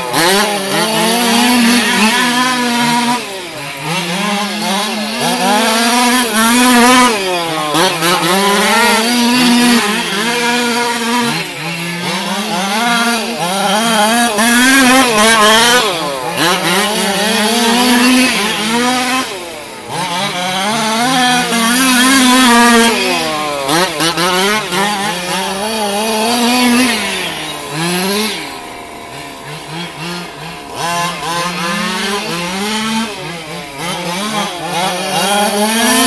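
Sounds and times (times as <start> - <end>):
rc car two-stroke engine: 0.0 - 36.0.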